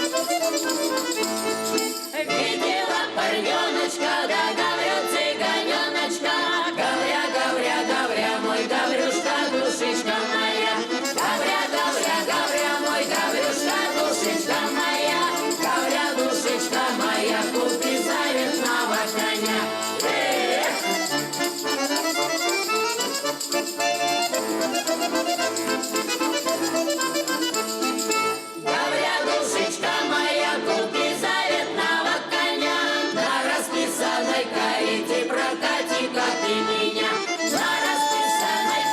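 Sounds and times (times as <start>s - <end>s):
vocal ensemble singing folk song: 0.0s - 22.4s, 28.5s - 38.9s
accordion: 0.0s - 38.9s.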